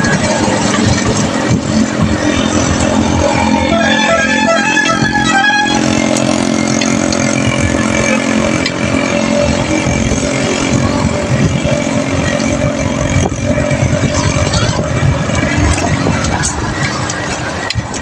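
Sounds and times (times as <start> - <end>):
small motorcycle engine running: 0.0 - 18.0
traffic noise: 0.0 - 18.0.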